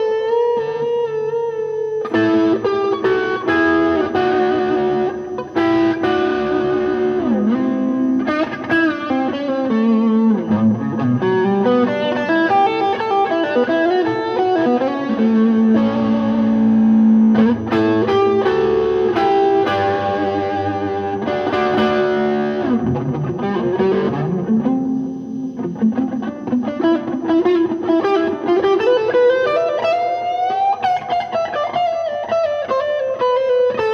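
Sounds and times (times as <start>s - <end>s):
overdriven electric guitar lead: 0.0s - 33.9s.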